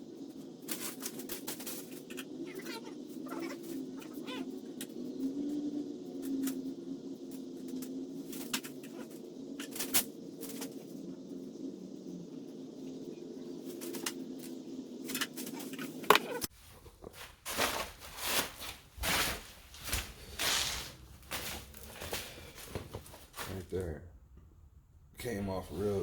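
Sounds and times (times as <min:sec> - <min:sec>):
low hum: 0:03.0 - 0:26.0.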